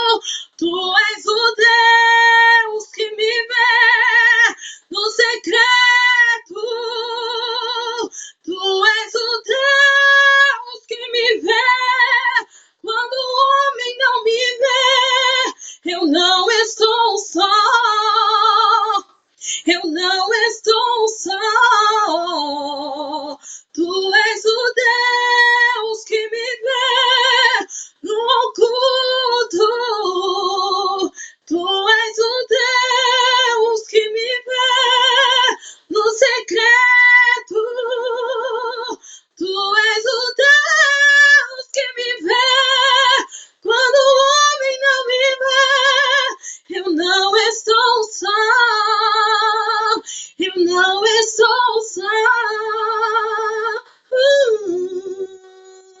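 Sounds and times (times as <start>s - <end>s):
woman singing unaccompanied: 0.0s - 56.0s.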